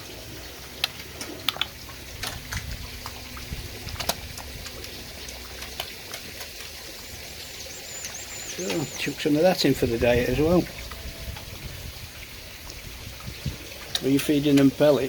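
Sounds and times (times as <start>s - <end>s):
sharp clicks of water: 0.0s - 15.0s
small splashes: 0.0s - 15.0s
steady low background noise: 0.0s - 15.0s.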